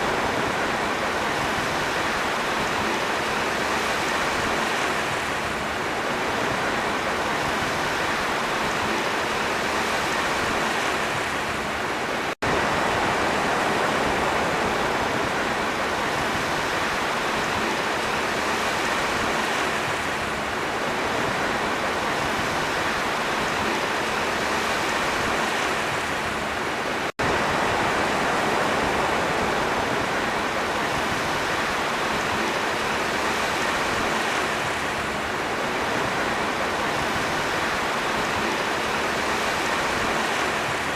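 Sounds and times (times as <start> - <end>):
sea waves washing: 0.0 - 40.9.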